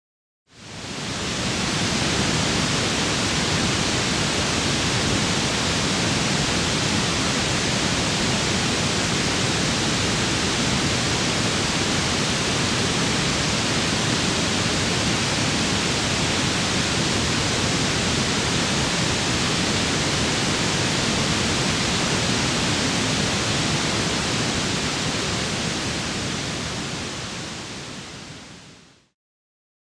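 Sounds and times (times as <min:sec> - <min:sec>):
steady white noise hiss: 0:00.5 - 0:29.2.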